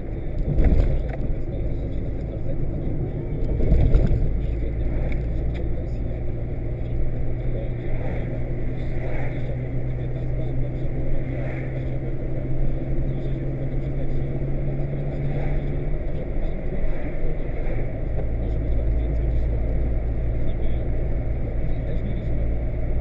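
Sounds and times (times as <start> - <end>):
car engine and road noise: 0.0 - 23.0
low steady hum: 0.0 - 23.0.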